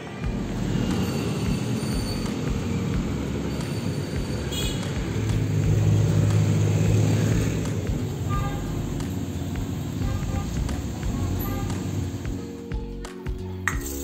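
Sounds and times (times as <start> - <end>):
low engine drone: 0.0 - 12.5
cars and motorbikes passing: 0.0 - 12.6.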